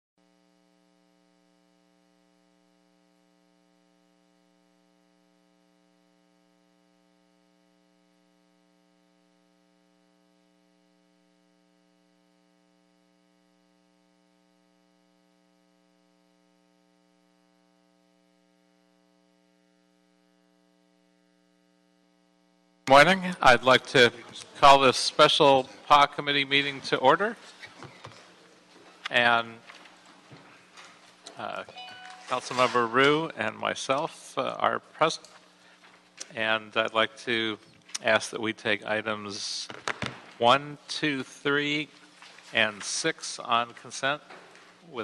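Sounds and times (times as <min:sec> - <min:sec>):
faint steady hum: 0:00.2 - 0:45.0.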